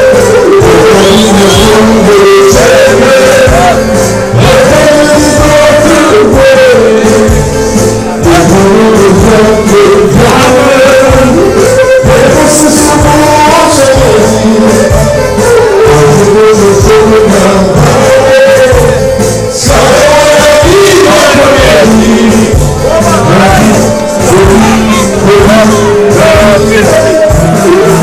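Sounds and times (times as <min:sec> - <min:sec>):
clarinet and band playing: 0:00.0 - 0:28.0
man singing into microphone: 0:00.0 - 0:28.0.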